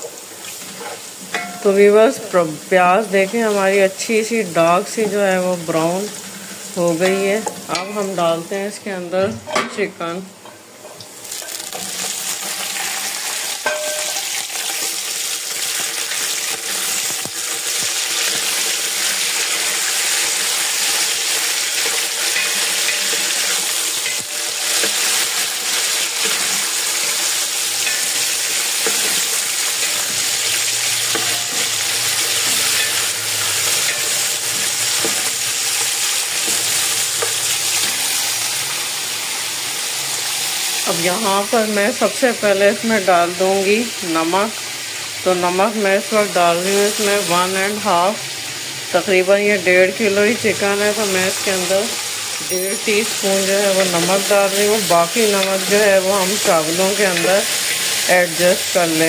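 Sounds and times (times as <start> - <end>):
chicken sizzling in hot oil: 0.0 - 8.8, 10.3 - 59.0.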